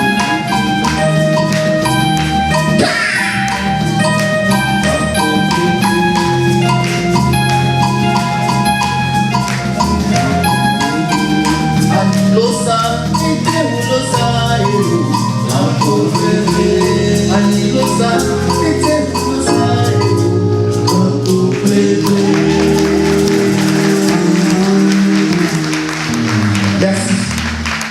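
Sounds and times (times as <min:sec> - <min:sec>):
music with pitched percussion and drums: 0:00.0 - 0:26.8.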